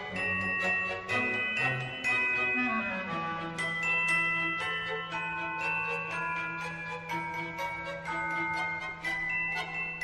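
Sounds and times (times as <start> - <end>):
mallet percussion tones: 0.0 - 10.0.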